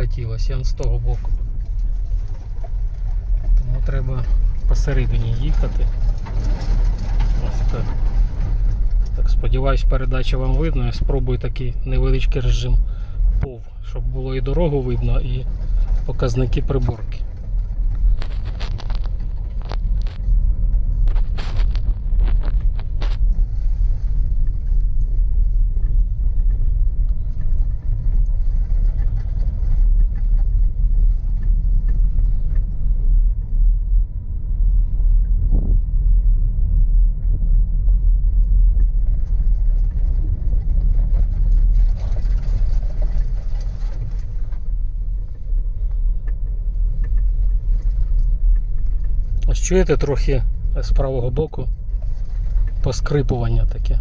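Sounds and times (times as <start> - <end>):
car cabin rumble on bumpy track: 0.0 - 54.0.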